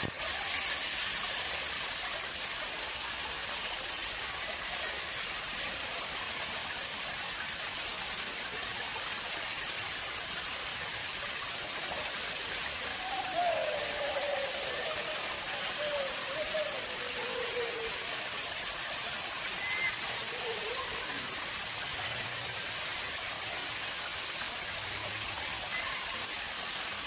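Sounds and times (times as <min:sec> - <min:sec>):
water flowing into pond: 0:00.0 - 0:27.0.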